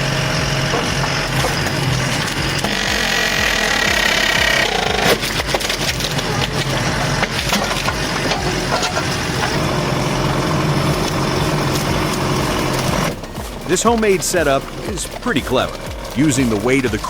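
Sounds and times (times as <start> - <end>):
engine running: 0.0 - 17.0
log cracking and splintering: 0.0 - 17.0.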